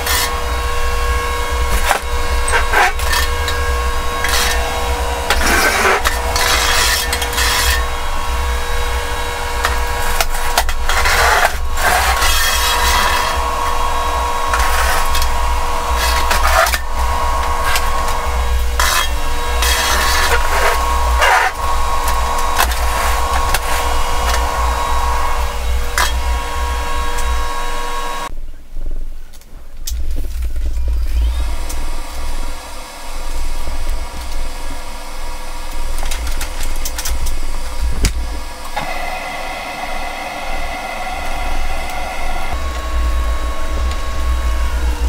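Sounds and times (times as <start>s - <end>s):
wheelchair motors humming and whining: 0.0s - 28.3s, 30.6s - 45.0s.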